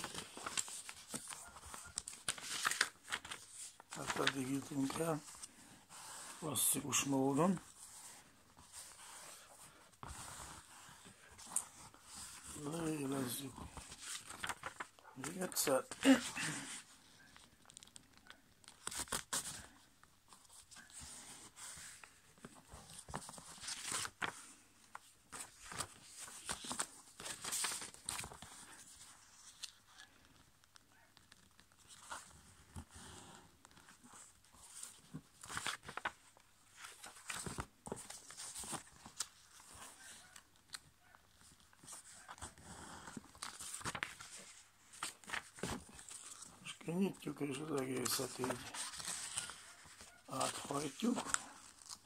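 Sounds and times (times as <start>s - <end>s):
paper being folded and creased: 0.0s - 52.0s.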